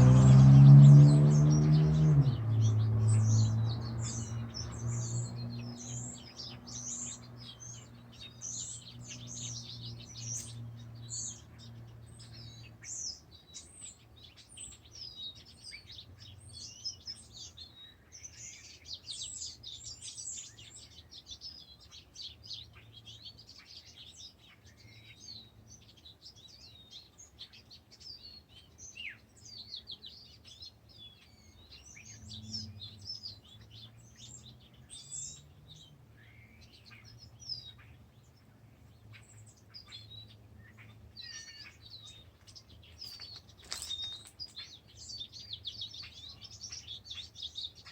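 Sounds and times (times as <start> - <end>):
birds chirping and trilling: 0.0 - 47.9.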